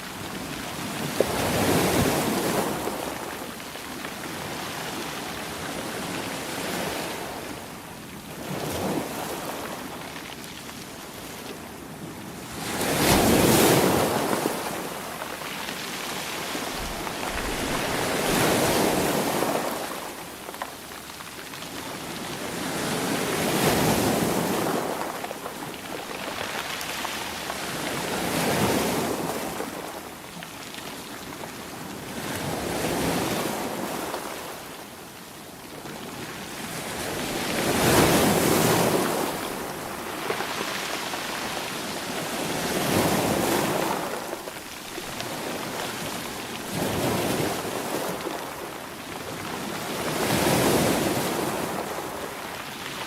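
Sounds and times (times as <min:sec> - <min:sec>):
sea waves breaking on shore: 0:00.0 - 0:30.2, 0:36.0 - 0:53.0.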